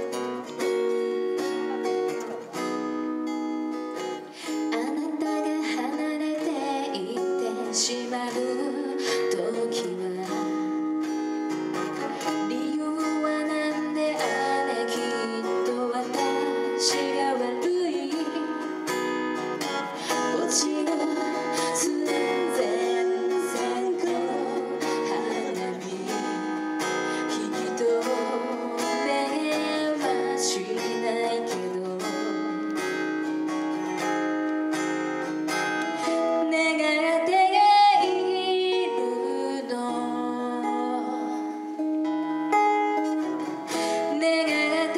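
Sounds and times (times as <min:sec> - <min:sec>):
person singing: 0:00.0 - 0:03.3, 0:03.9 - 0:33.4, 0:35.7 - 0:44.9
plucked acoustic strings: 0:00.0 - 0:44.9.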